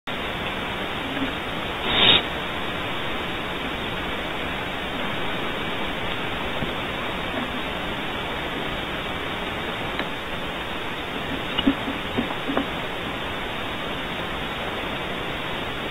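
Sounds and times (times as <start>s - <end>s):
static-like microphone hiss: 0.1s - 15.9s
burst of noise: 0.7s - 13.7s.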